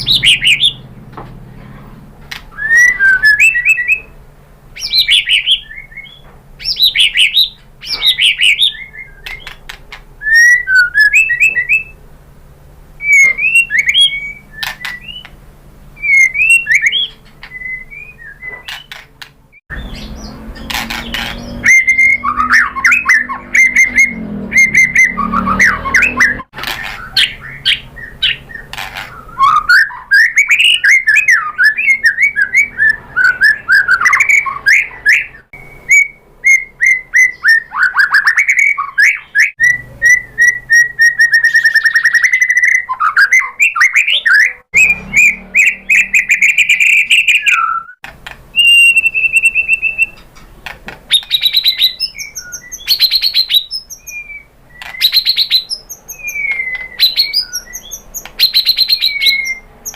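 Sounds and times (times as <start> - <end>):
bird singing whistled song: 0.0 - 0.8, 2.5 - 4.2, 4.8 - 9.6, 10.2 - 12.0, 13.0 - 15.4, 16.0 - 19.0, 19.7 - 50.3, 51.1 - 59.9.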